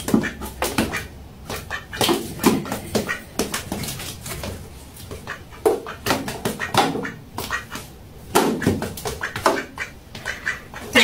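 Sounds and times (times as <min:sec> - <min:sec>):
duck quacking: 0:00.0 - 0:03.8, 0:05.2 - 0:11.0.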